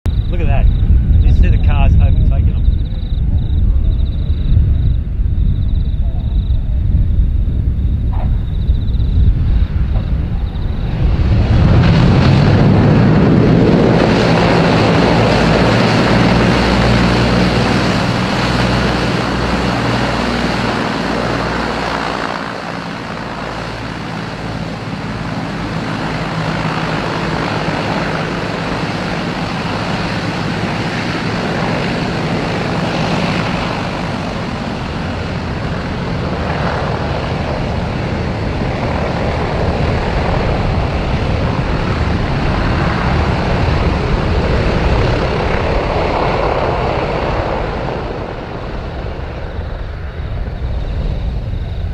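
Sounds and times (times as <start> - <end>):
propeller plane engines running: 0.1 - 51.9.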